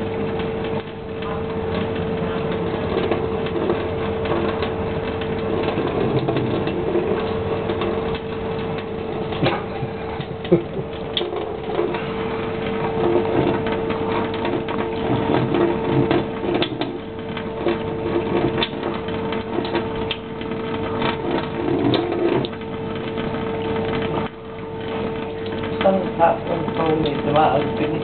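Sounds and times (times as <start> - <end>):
cat lapping water: 0.0 - 28.0
tap water splashing into a sink: 0.0 - 28.0.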